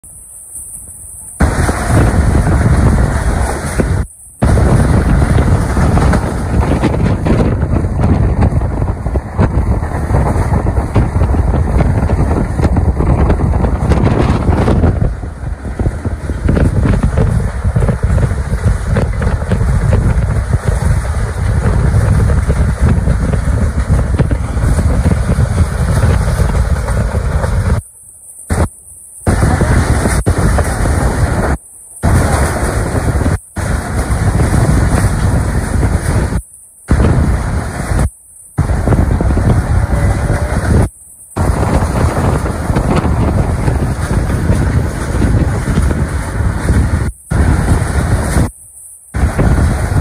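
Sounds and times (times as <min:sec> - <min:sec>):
train coaches rumbling on track: 0:00.0 - 0:50.0
wind buffeting microphone: 0:00.1 - 0:50.0.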